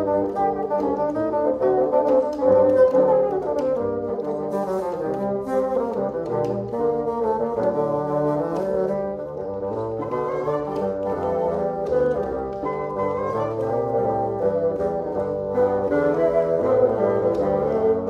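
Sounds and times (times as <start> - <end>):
bassoon quartet playing: 0.0 - 18.0.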